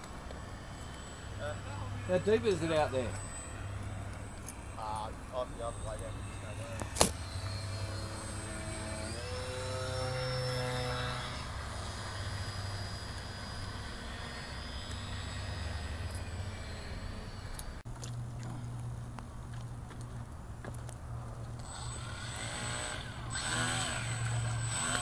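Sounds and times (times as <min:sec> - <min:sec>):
model airplane engine whining: 0:00.0 - 0:17.8, 0:21.6 - 0:25.0.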